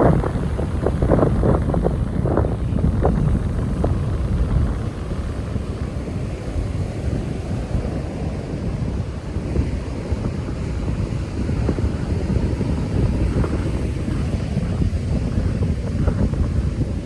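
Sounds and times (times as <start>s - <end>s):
ocean surf washing ashore: 0.0s - 17.0s
wind buffeting the microphone: 0.0s - 17.0s.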